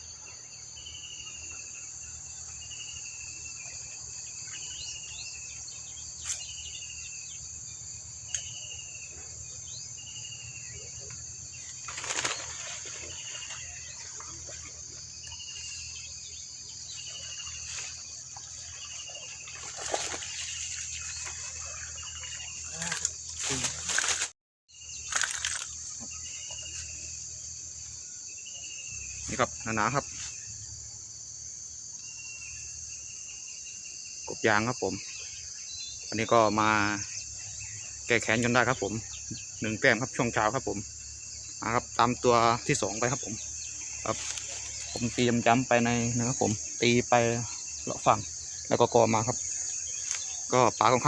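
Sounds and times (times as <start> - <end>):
high buzz of insects: 0.0 - 51.0.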